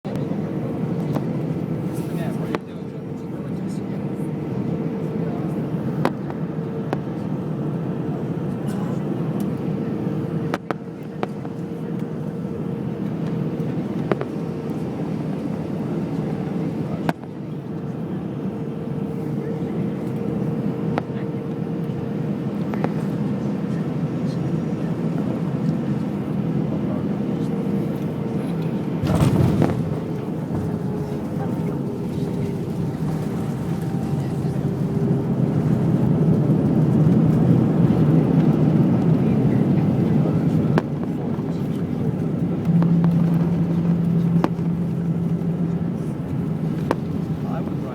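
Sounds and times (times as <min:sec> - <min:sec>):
airplane cabin engine hum: 0:00.0 - 0:47.9.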